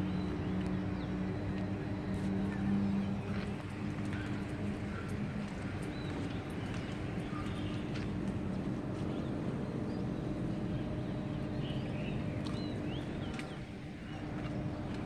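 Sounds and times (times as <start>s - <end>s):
air conditioning units humming: 0.0s - 15.0s.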